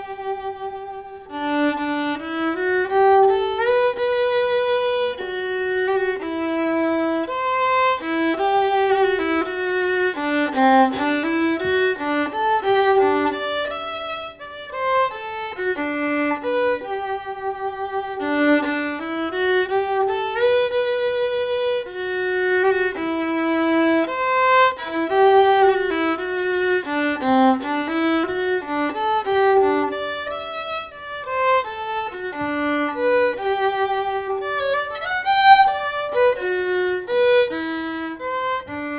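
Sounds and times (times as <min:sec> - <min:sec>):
solo violin melody: 0:00.0 - 0:38.9.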